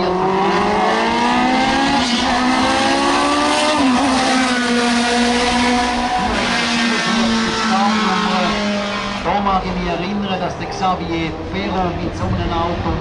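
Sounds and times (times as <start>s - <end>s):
racing car engine accelerating: 0.0s - 13.0s.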